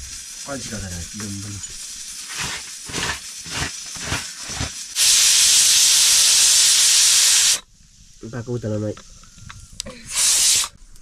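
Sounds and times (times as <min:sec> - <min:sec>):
hiss of steam: 0:00.0 - 0:08.9, 0:09.9 - 0:11.0.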